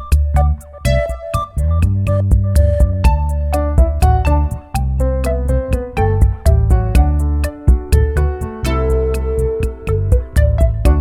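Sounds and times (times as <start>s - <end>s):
bass: 0.0s - 11.0s
keyboard melody: 0.0s - 11.0s
steady beat: 0.0s - 11.0s.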